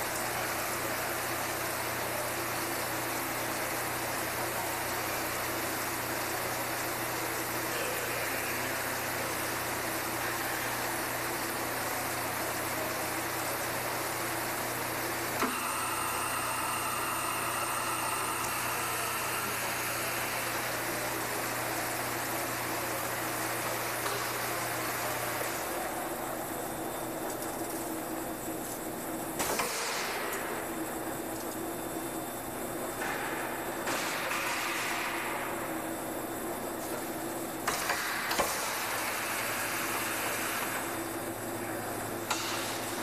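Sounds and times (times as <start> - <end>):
machine humming and hissing: 0.0 - 43.0.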